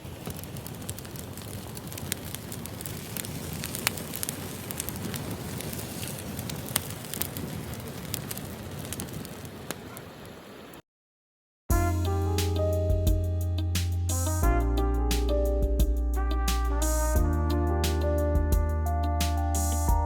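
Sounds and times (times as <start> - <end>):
wood fire crackling: 0.0 - 10.8, 11.8 - 19.9.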